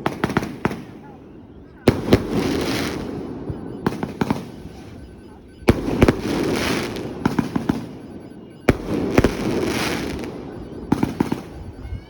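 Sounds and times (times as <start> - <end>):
fireworks popping: 1.8 - 11.8.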